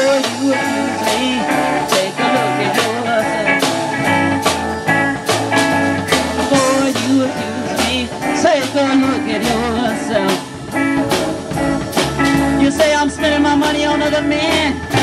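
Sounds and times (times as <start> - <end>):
blues band playing: 0.0 - 15.0.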